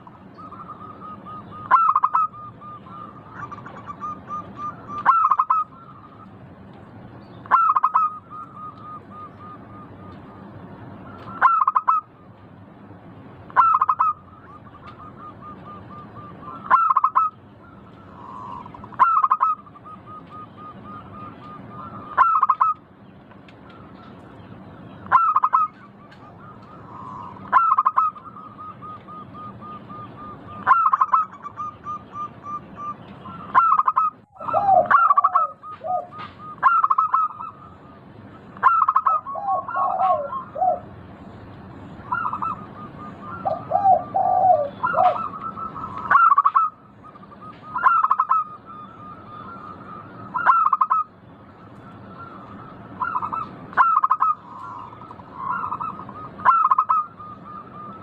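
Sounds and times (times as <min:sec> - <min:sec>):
dove cooing: 0:00.0 - 0:06.4, 0:07.5 - 0:10.2, 0:11.0 - 0:12.1, 0:13.6 - 0:22.8, 0:25.1 - 0:38.0, 0:38.6 - 0:41.0, 0:42.0 - 0:51.1, 0:51.8 - 0:58.0.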